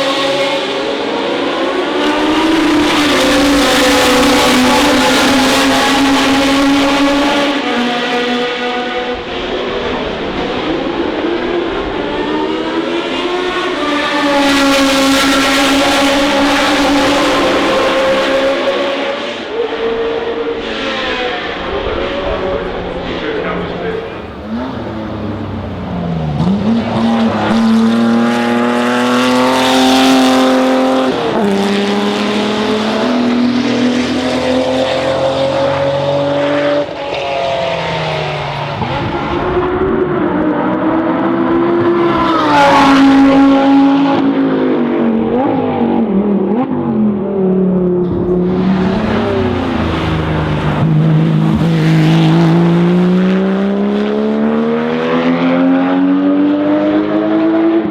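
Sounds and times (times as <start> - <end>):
racing car engine accelerating: 0.0 - 57.9.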